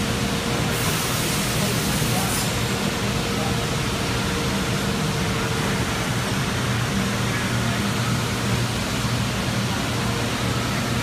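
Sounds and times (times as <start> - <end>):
machines hissing and droning: 0.0 - 11.0.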